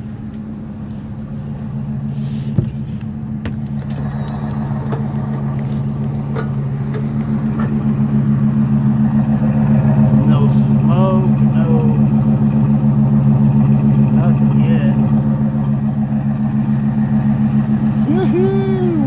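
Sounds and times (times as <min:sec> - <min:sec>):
motorhome engine idling: 0:00.0 - 0:19.0.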